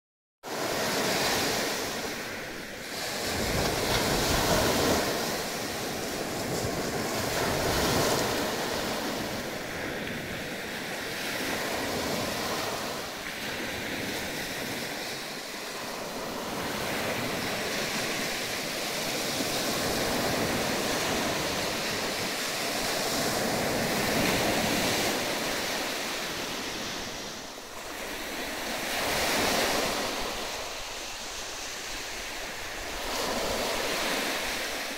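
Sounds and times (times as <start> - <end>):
small waves breaking on shore: 0.5 - 34.9.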